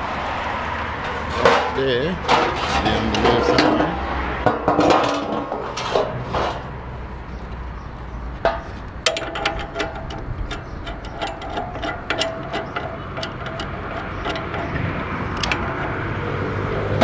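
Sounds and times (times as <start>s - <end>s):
metal pan scraping on concrete: 1.0s - 6.8s, 8.4s - 17.0s.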